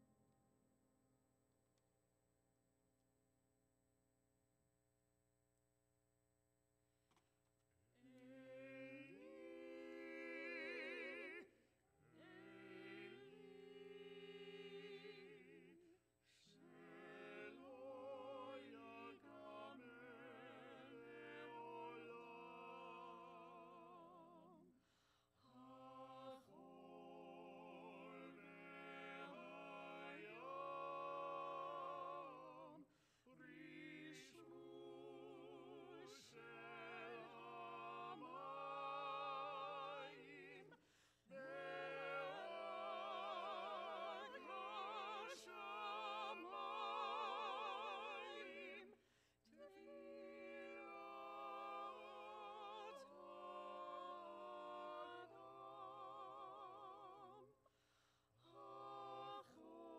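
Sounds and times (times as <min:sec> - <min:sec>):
small choir singing slow song: 0:08.0 - 0:24.8, 0:25.4 - 0:57.7, 0:58.3 - 0:59.9.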